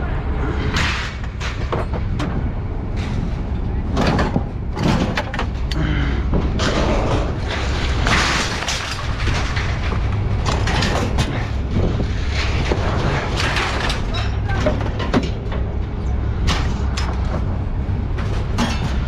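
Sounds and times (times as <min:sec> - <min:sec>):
vehicle low rumble: 0:00.0 - 0:19.0
knocks and rattles: 0:00.6 - 0:19.0.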